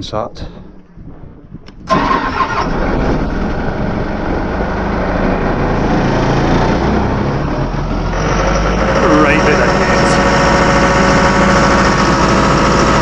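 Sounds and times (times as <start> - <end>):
diesel compressor engine running: 1.9 - 13.0.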